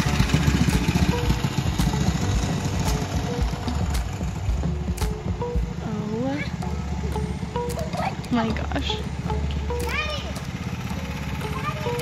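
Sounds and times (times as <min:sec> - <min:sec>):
minibike engine running: 0:00.0 - 0:12.0.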